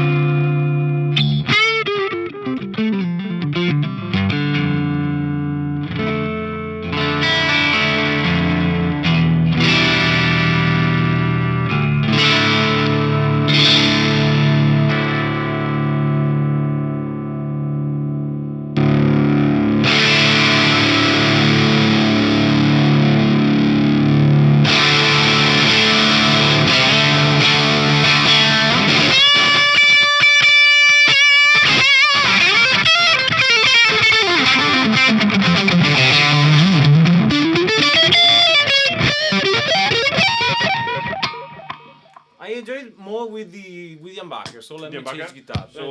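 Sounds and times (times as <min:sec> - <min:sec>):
distorted electric guitar: 0:00.0 - 0:42.4.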